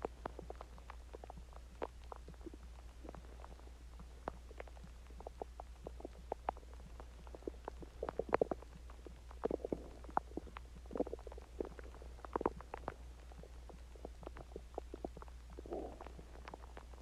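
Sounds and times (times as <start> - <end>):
steady low hum: 0.0 - 17.0
stomach gurgling: 0.0 - 17.0.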